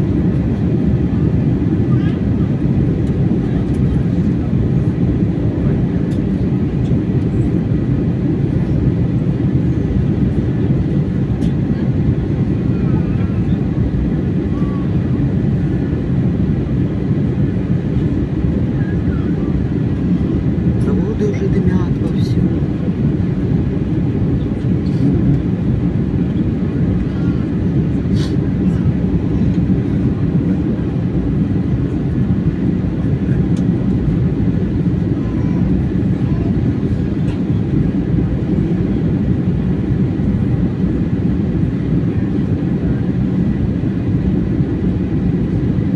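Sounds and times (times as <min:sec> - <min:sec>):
airliner cabin engine drone: 0:00.0 - 0:45.9.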